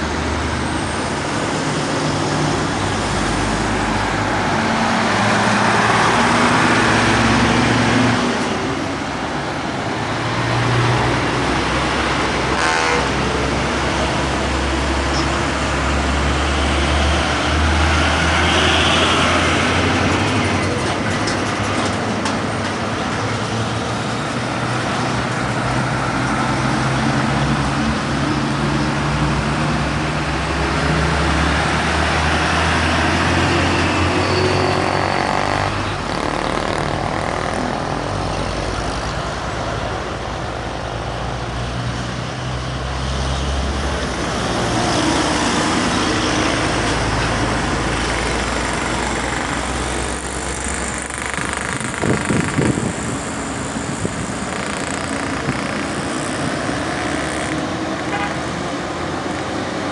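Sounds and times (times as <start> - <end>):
trucks and bus passing: 0.0 - 59.9.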